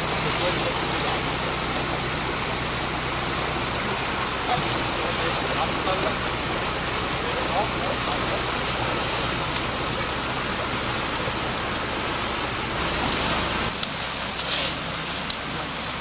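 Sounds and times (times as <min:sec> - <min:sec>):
boots splashing through stream: 0:00.0 - 0:16.0
generator humming: 0:00.0 - 0:16.0.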